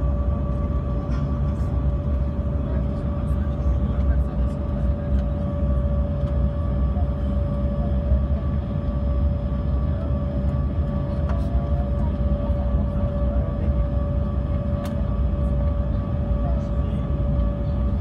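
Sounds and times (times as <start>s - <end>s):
jet engine whine: 0.0s - 18.0s
jet engines rumbling in cabin: 0.0s - 18.0s.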